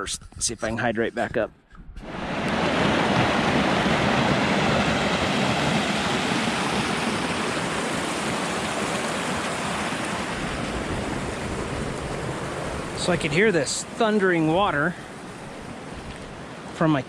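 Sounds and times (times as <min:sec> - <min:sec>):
mountain stream rushing: 0:02.0 - 0:17.0.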